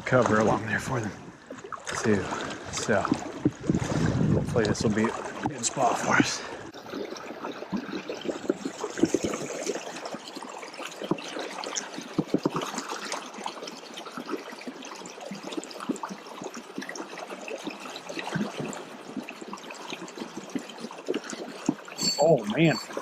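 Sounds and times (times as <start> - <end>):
river current flowing and trickling: 0.0 - 23.0
small water splashes: 0.0 - 23.0.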